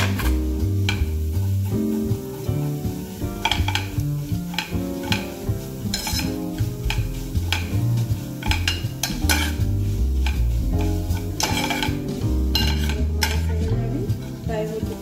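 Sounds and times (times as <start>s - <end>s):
light sizzle: 0.0s - 15.0s
metal spoon scraping pan: 0.0s - 15.0s.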